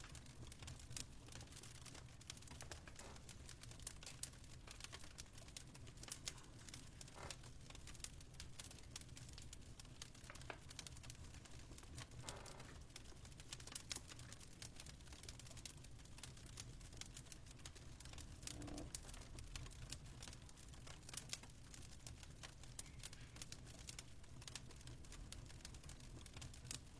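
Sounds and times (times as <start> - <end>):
fire crackling and popping: 0.0 - 26.9.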